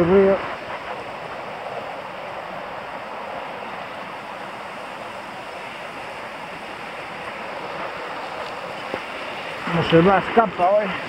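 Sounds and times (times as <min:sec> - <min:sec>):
fast-flowing river rushing: 0:00.0 - 0:11.0.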